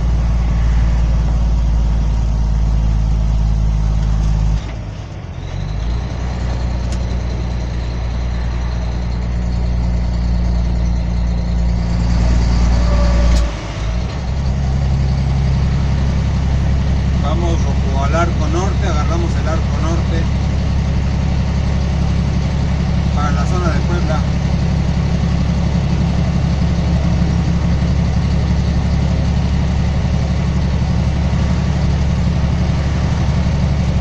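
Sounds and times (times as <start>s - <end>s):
truck engine drone from inside cab: 0.0s - 34.0s.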